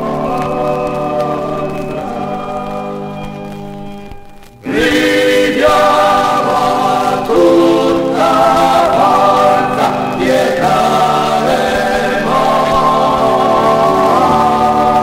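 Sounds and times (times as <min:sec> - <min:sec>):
male choir singing held chords: 0:00.0 - 0:03.3, 0:04.6 - 0:15.0.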